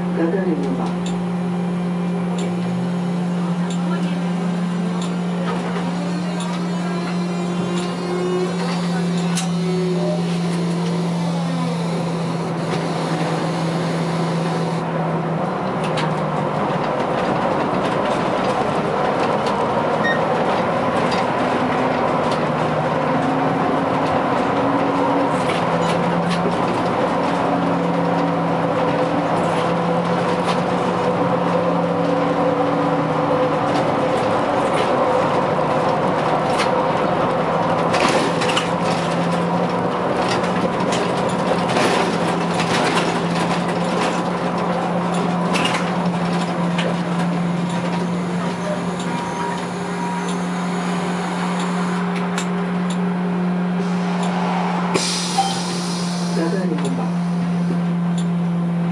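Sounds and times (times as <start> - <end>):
trolleybus running and road noise: 0.0 - 58.9.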